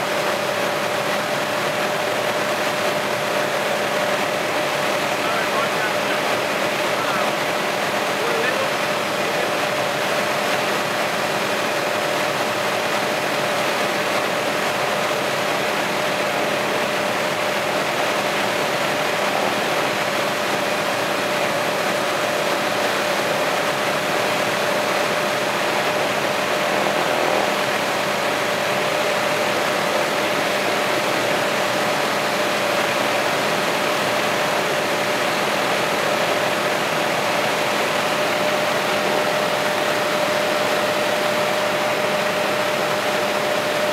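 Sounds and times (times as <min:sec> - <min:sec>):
helicopter engine and rotors drone: 0:00.0 - 0:43.9.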